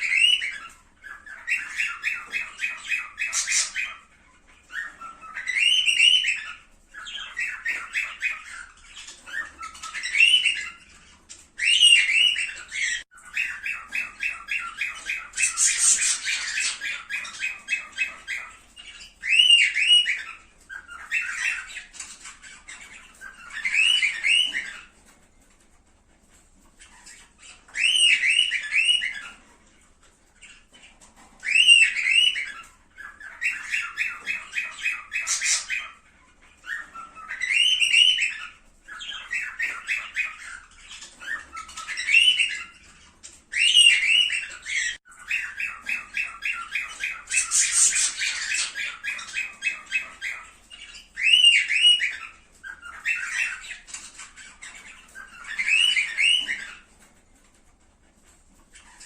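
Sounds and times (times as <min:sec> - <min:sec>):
cockatiels whistled calls: 0:00.0 - 0:25.2, 0:26.7 - 0:57.5, 0:58.6 - 0:59.0
cockatiels chattering: 0:00.0 - 0:59.0.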